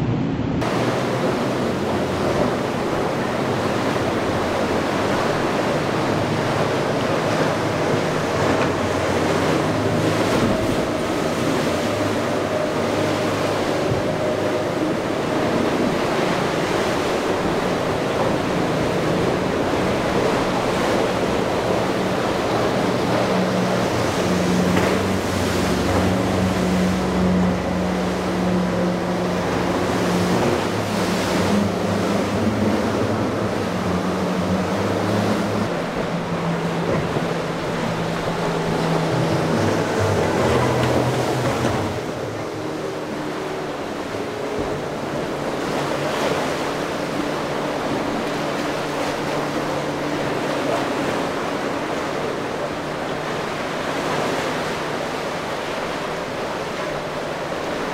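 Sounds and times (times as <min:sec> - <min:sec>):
boat engines droning: 0:00.0 - 0:57.9
churning water and surf: 0:00.0 - 0:57.9.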